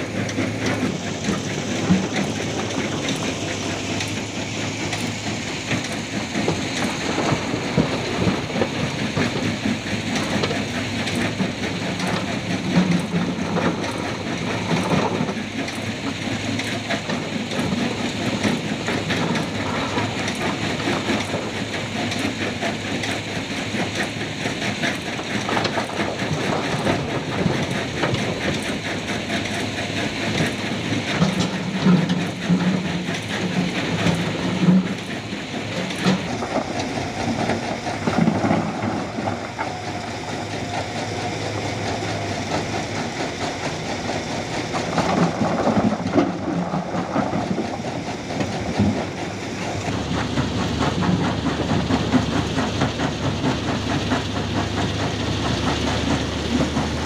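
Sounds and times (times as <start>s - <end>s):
diesel engine drone: 0.0s - 57.0s.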